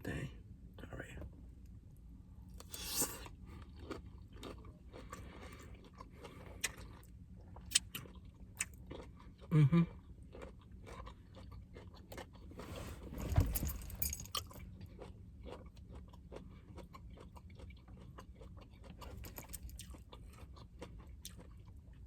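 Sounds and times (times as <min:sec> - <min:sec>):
close chewing: 0:02.6 - 0:22.0.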